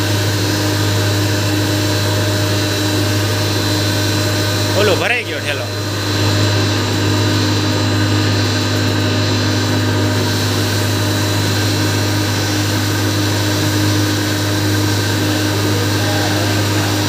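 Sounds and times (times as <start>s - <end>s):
grinding mill motor hum: 0.0s - 17.0s.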